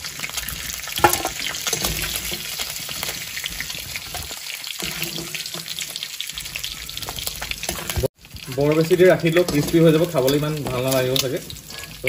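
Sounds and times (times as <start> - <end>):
pork sizzling and crackling: 0.0 - 12.0
steel spoon scraping a pan: 0.9 - 8.5, 9.3 - 12.0.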